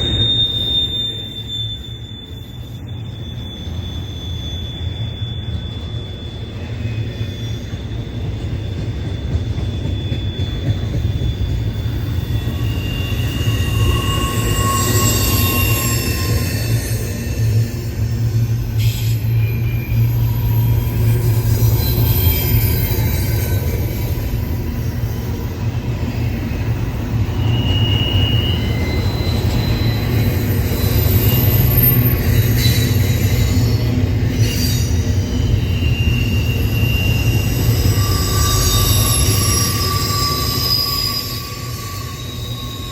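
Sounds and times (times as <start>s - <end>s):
high-pitched wheel squeals: 0.0s - 42.9s
train rumbling on rails: 0.0s - 42.9s.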